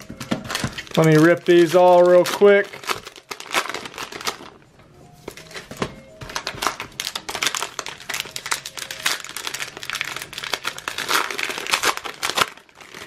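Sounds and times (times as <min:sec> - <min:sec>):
cellophane wrappers ripping and crinkling: 0:00.4 - 0:04.6, 0:06.3 - 0:13.0.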